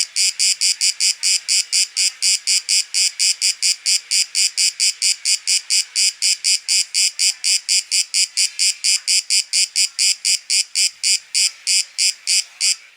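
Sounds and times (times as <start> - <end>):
cicada pulsing song: 0.0 - 12.8.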